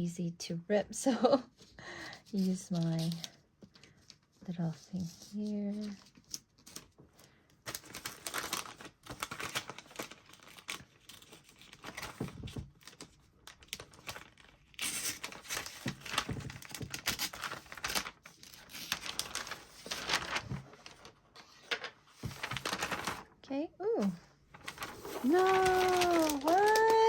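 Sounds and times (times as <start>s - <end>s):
wrapping crinkling and rustling: 1.3s - 27.0s.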